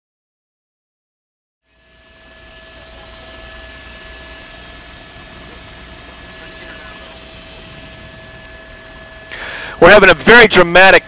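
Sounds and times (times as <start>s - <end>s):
thin steady whines: 1.6s - 11.0s
faint helicopter rumble and hiss: 1.7s - 11.0s.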